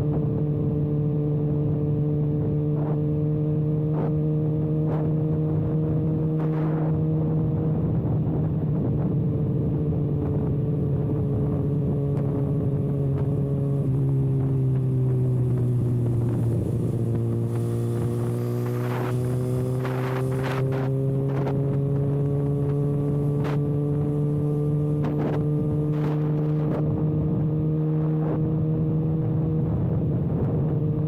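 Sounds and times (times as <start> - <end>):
motorcycle engine droning: 0.0 - 31.0.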